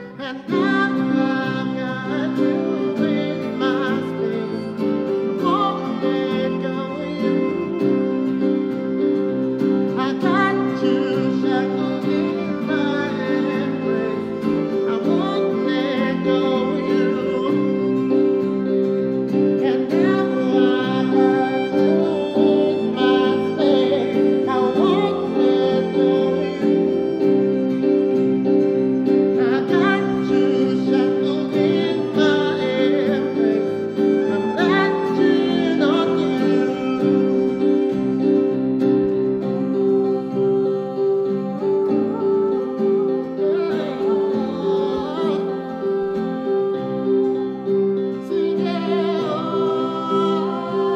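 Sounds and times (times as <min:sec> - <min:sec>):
bowed violin melody: 0:00.0 - 0:50.9
strummed acoustic guitar: 0:00.0 - 0:50.9.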